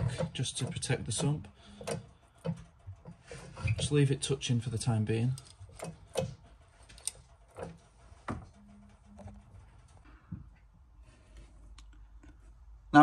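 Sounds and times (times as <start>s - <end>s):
faint clicks and knocks of tools: 0.0s - 10.7s.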